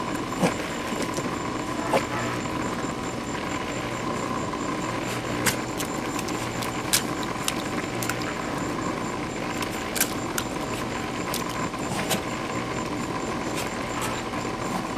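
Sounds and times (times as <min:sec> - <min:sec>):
pool pump humming: 0:00.0 - 0:14.9.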